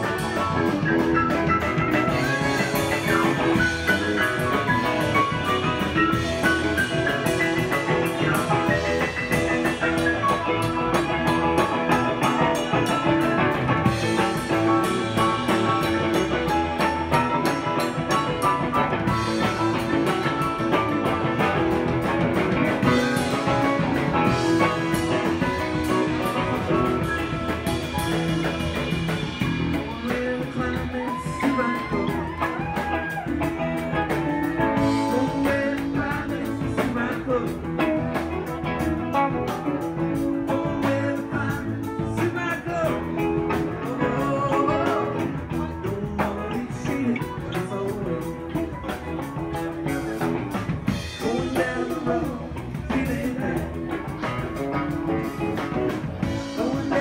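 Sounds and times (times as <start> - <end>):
bending guitar notes: 0.0 - 57.0
live rock band playing: 0.0 - 57.0.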